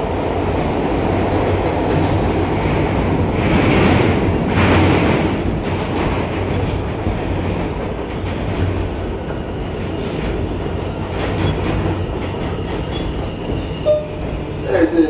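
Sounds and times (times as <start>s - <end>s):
subway car running on rails: 0.0s - 15.0s.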